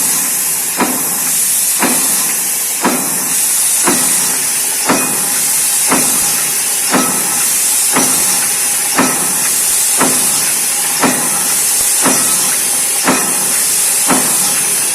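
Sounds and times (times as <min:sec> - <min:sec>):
steady high hiss: 0:00.0 - 0:14.9.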